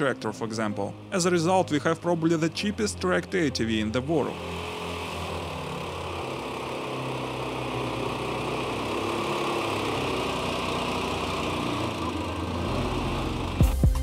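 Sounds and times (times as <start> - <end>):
small vehicle engine running: 0.0 - 14.0.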